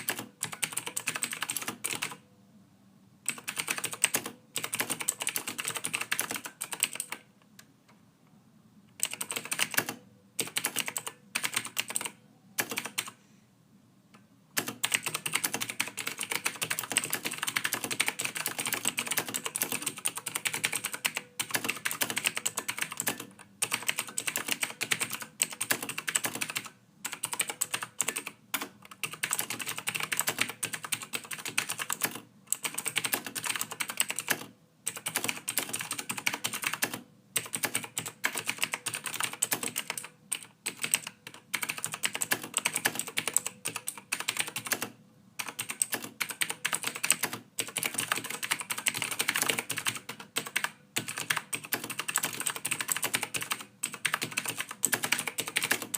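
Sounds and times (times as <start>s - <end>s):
computer keyboard typing: 0.0s - 2.2s, 3.2s - 7.3s, 9.0s - 13.2s, 14.6s - 55.9s.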